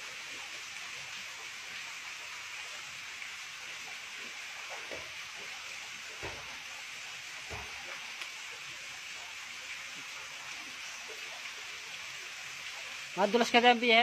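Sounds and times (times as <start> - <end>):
waterfall pouring into pool: 0.0 - 14.0.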